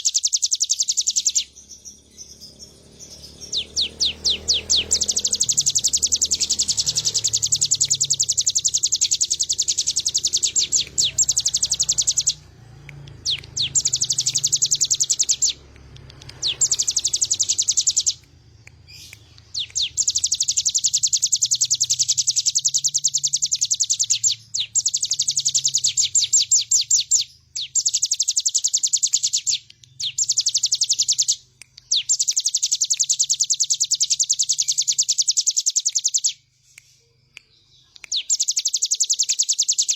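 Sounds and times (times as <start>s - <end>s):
bird singing high rattling trills: 0.0s - 12.6s, 13.2s - 36.7s, 37.5s - 39.9s.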